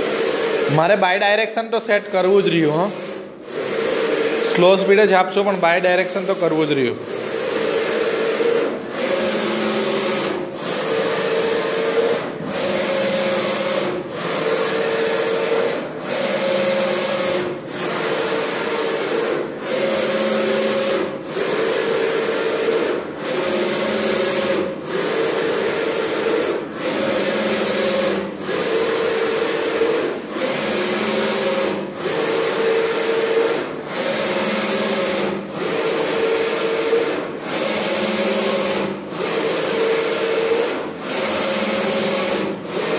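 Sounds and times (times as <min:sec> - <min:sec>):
printing machine motor whine: 0:00.0 - 0:42.9.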